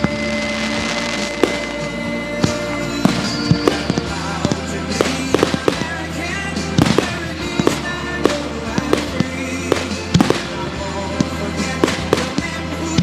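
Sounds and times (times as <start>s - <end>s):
fireworks bangs and pops: 0.0s - 13.0s
recorded music: 0.0s - 13.0s.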